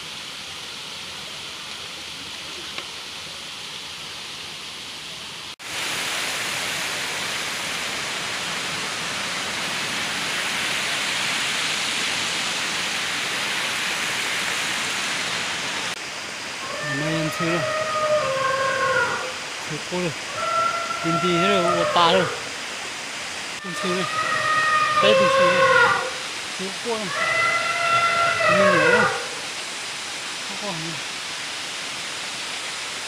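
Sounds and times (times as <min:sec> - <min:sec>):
stream flowing over rocks: 0:00.0 - 0:17.9, 0:18.6 - 0:33.0.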